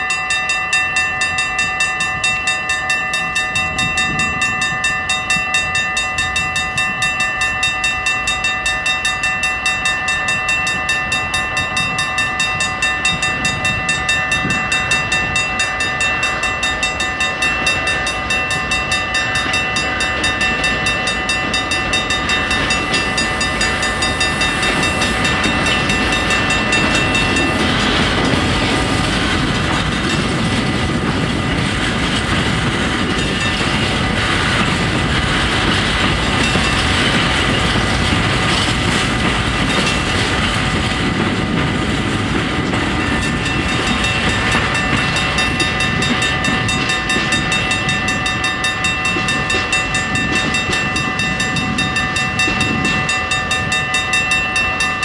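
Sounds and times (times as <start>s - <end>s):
level crossing bells ringing: 0.0s - 41.7s, 42.6s - 55.0s
freight train rumbling: 0.0s - 55.0s.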